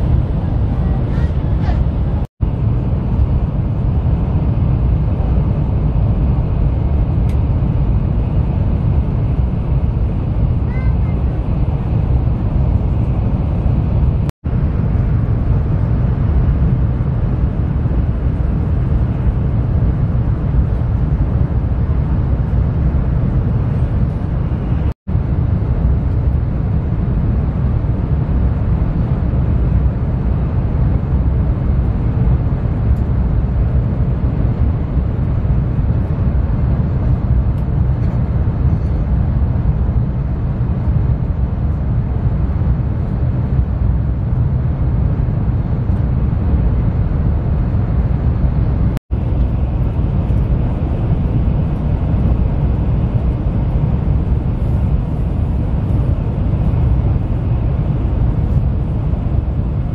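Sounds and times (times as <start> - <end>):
train running at high speed: 0.0 - 59.9.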